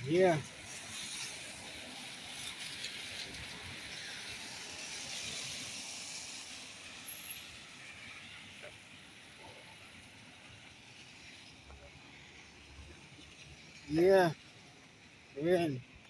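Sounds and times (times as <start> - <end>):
tyres hissing on wet road: 0.0 - 16.0.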